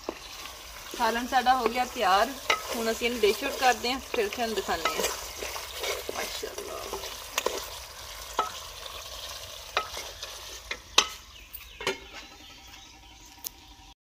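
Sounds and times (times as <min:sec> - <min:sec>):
wooden spoon stirring curry: 0:00.0 - 0:11.5
soft sizzle: 0:00.0 - 0:14.0.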